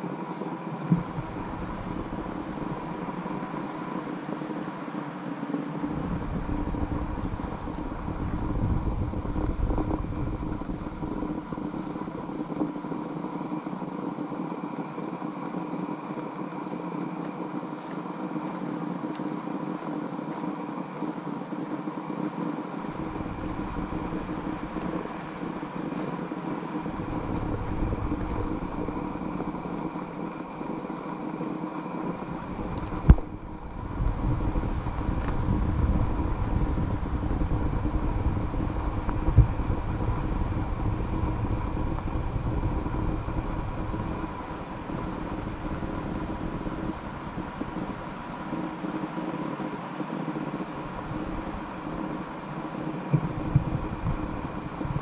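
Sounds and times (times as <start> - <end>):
wind buffeting microphone: 0.5 - 13.9, 22.7 - 55.0.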